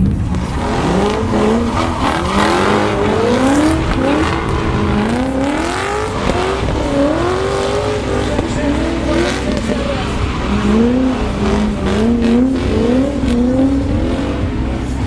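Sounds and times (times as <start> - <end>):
car engines revving: 0.0 - 15.0
tyre squeal: 0.0 - 15.0.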